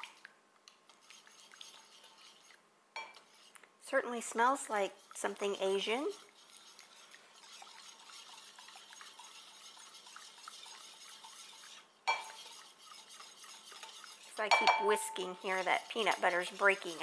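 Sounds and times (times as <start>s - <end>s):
whisk scraping glass bowl: 0.9s - 17.0s.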